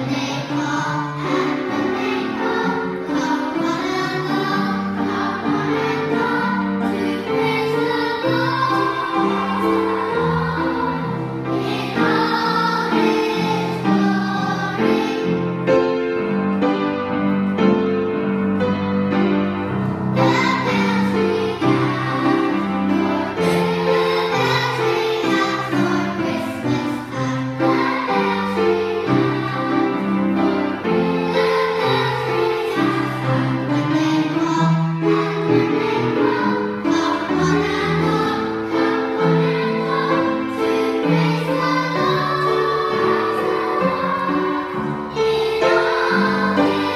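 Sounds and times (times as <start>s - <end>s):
children's choir singing: 0.0s - 46.9s
piano accompaniment: 0.0s - 46.9s.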